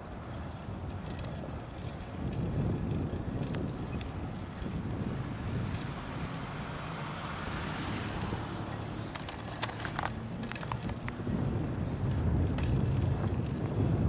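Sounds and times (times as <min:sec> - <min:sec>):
bicycle clicks and rattles: 0:00.0 - 0:14.0
tyres rolling over pavement: 0:00.0 - 0:14.0
wind on microphone: 0:00.0 - 0:14.0.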